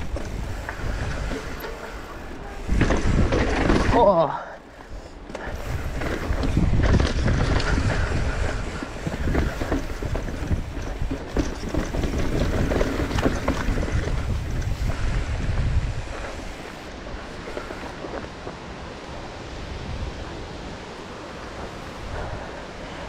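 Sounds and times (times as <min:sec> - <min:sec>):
bike clicks and rattles: 0:00.0 - 0:19.2
wind buffeting microphone: 0:00.0 - 0:23.0.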